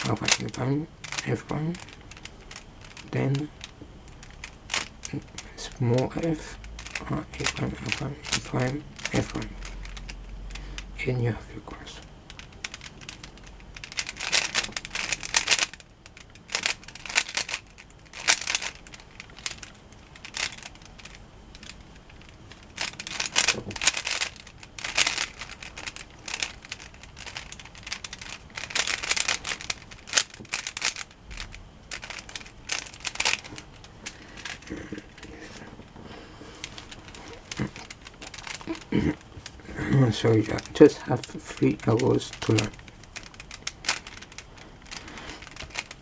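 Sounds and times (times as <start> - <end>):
puzzle cube layers clicking: 0.0 - 10.6, 12.0 - 35.7, 36.6 - 46.0.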